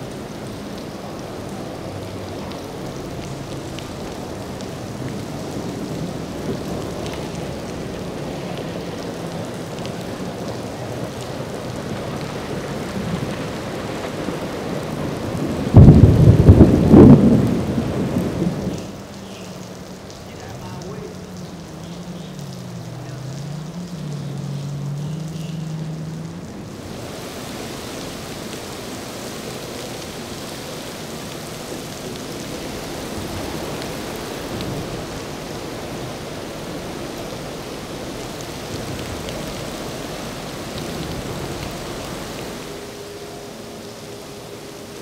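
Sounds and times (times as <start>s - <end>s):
boat outboard engines droning: 0.0s - 45.0s
heavy rain on pavement: 0.0s - 45.0s.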